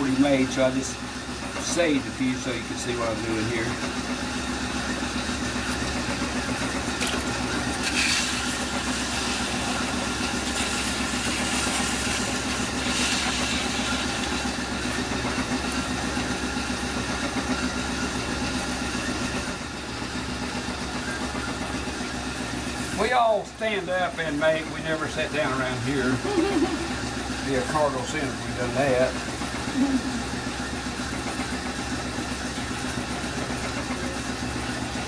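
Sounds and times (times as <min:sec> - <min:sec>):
potter's wheel motor humming: 0:00.0 - 0:35.0.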